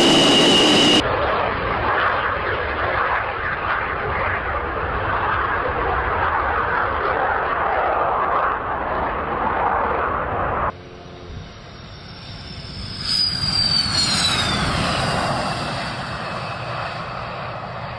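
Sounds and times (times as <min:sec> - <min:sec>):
jet engine noise: 0:00.0 - 0:17.9
jet passing with falling whine: 0:00.0 - 0:17.9.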